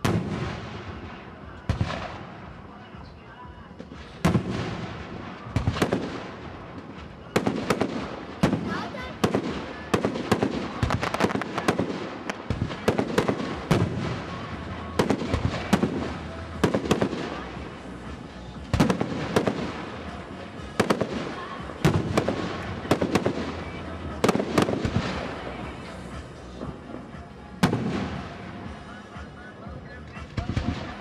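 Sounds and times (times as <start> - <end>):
fireworks bursts with crackle: 0.0 - 31.0.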